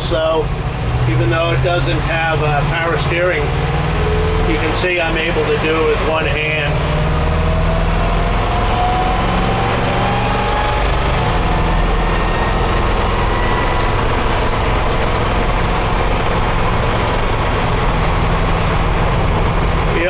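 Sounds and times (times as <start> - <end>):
engine running heard from cab: 0.0 - 20.0.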